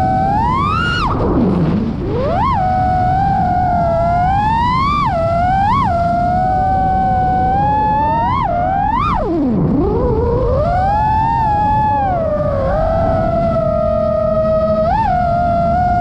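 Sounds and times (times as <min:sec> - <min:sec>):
quadcopter motors whining: 0:00.0 - 0:16.0
wind noise: 0:00.0 - 0:16.0.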